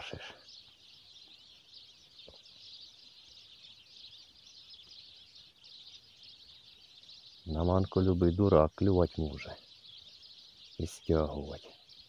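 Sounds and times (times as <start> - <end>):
faint high-pitched chirping: 0.0 - 12.0.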